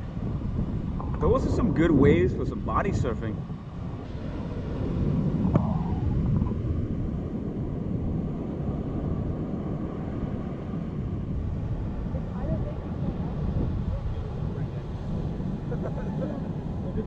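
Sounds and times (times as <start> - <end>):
ocean surf rumbling: 0.0 - 17.0
wind buffeting microphone: 0.0 - 17.0.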